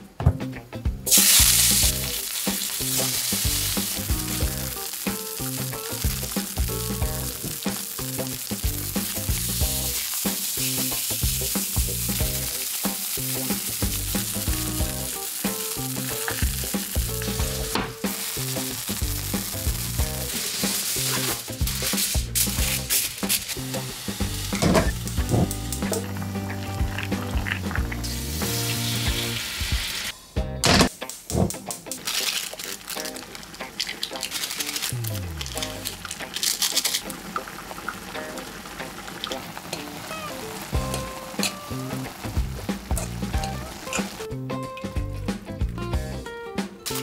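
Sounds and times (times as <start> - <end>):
steak sizzling in a frying pan: 1.1 - 30.1, 31.8 - 44.3.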